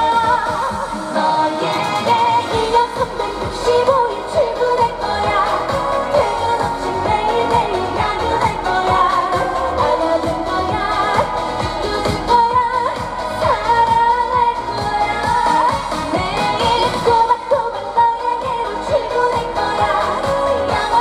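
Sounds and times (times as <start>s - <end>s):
trot song over sound system: 0.0s - 21.0s.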